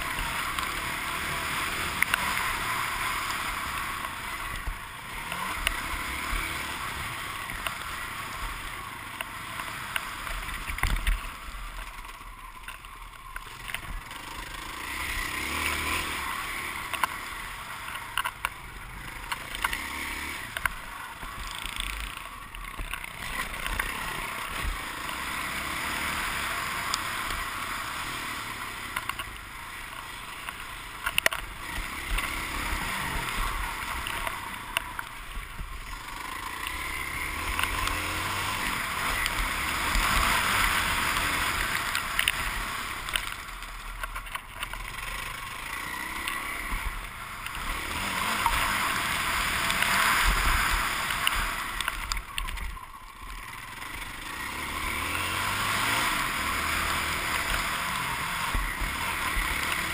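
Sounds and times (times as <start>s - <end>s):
motocross bike engine: 0.0s - 59.9s.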